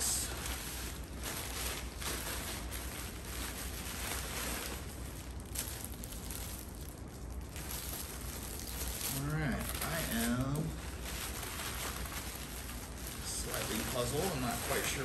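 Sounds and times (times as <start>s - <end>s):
plastic bag rustling and crinkling: 0.0s - 15.0s.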